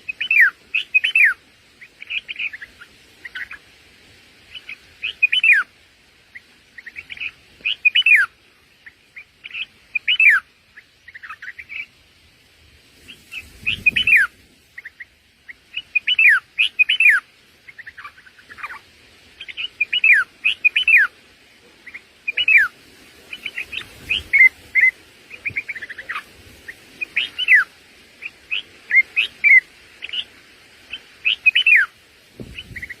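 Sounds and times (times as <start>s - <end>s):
small birds chirping: 0.0s - 12.1s, 13.0s - 33.0s.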